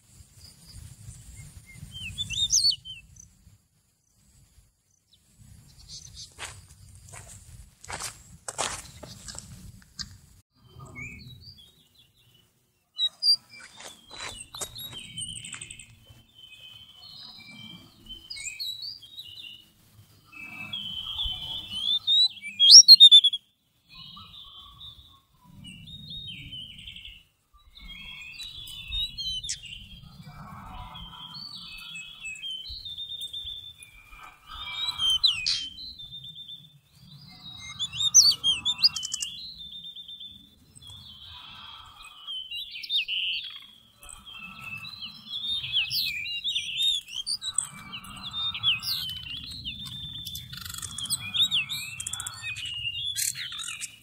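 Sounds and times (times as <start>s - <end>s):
birds singing and chirping: 0.4s - 3.4s, 4.9s - 9.4s, 10.0s - 54.0s.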